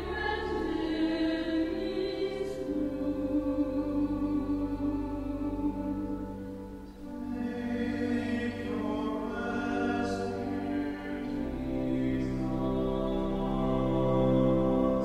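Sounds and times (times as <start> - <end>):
church choir singing: 0.0 - 15.0.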